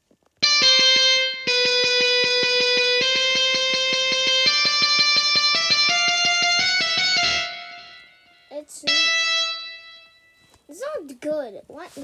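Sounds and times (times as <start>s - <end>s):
synthetic guitar riff: 0.4s - 10.3s.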